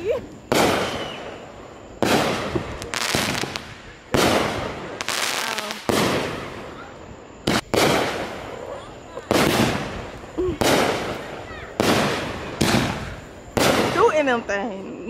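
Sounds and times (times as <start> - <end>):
firework shells bursting: 0.0 - 14.6
firework crackles: 0.0 - 15.0.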